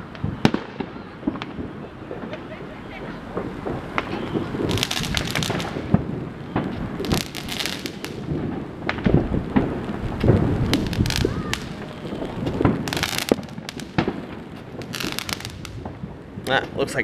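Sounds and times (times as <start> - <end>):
fireworks banging: 0.0 - 17.0
fireworks crackling: 0.0 - 17.0
rain hissing: 1.2 - 17.0.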